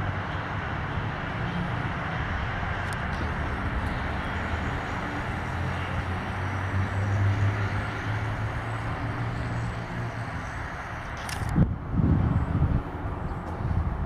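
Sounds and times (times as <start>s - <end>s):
diesel locomotive engine rumble: 0.0s - 14.0s.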